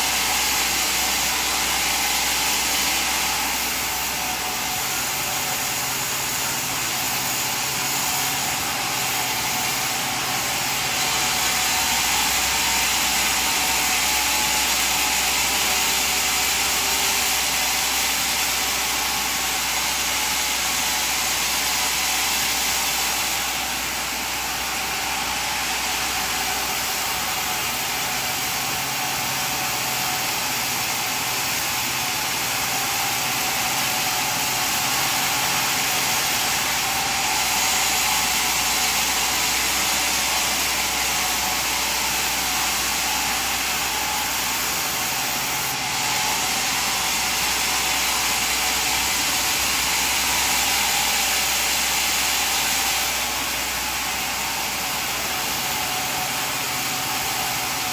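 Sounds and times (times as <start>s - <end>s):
sawmill machinery whirring: 0.0s - 57.9s.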